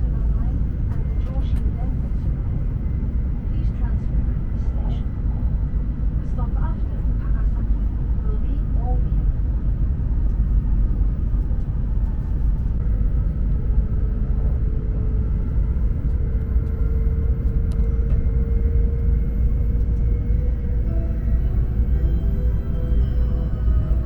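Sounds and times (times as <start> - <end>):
faint whine: 0.0 - 24.0
train running rumble: 0.0 - 24.0.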